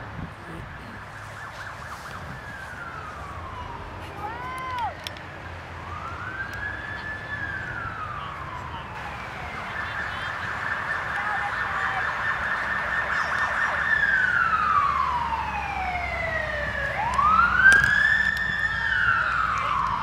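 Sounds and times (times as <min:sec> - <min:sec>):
police siren wailing: 0:00.5 - 0:20.0.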